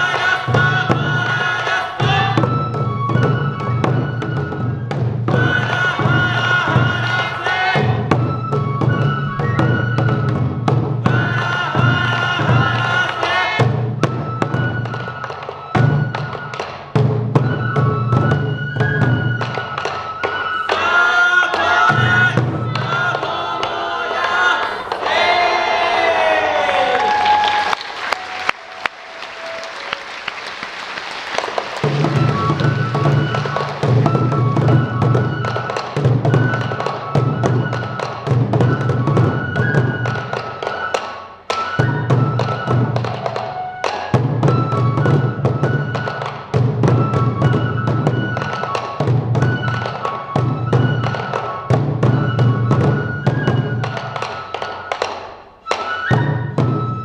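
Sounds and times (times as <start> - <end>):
bamboo flute melody: 0.0 - 57.0
taiko drums beating: 0.0 - 57.0.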